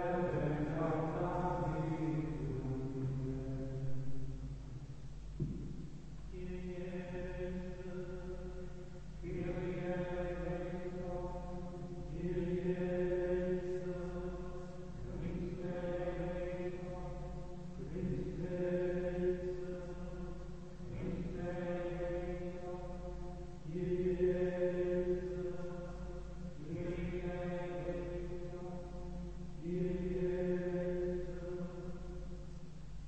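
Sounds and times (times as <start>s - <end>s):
monks chanting: 0.0s - 4.0s, 6.3s - 32.4s.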